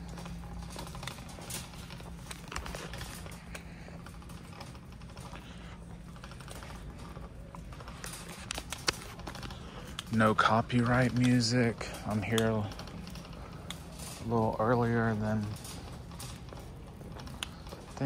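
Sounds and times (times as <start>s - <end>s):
cart basket rattling: 0.0s - 18.0s
shopping cart rolling on concrete: 0.0s - 18.0s
steady low hum: 0.0s - 18.0s
wheels clicking: 0.0s - 18.0s.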